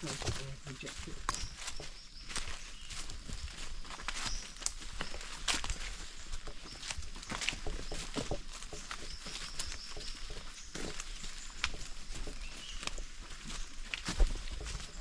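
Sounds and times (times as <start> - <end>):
footsteps crunching leaf litter: 0.0 - 15.0.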